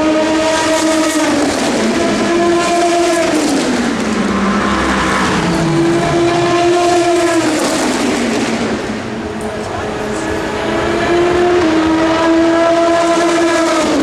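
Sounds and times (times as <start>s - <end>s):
racing car engine: 0.0s - 14.0s.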